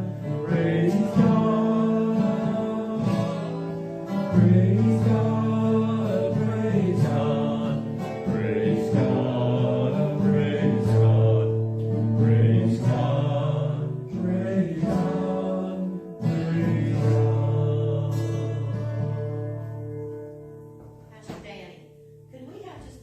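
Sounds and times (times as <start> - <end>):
voices singing a hymn: 0.0 - 19.5.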